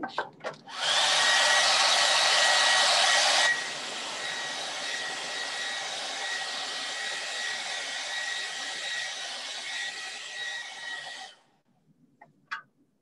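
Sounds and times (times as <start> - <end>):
hair dryer blowing: 0.7 - 11.4.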